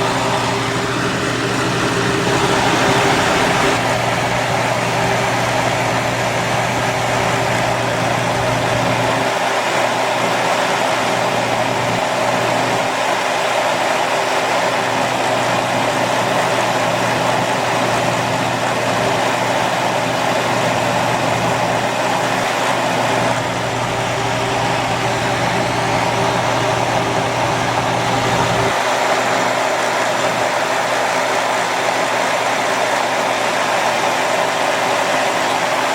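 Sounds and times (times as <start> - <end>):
compressor hum: 0.0 - 35.3
dehumidifier fan rushing air: 0.0 - 35.9.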